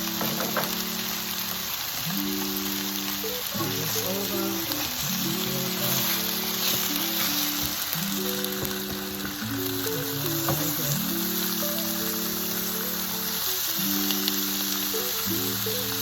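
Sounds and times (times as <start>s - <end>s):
chicken sizzling in a skillet: 0.0s - 16.0s
slow background music: 0.0s - 16.0s.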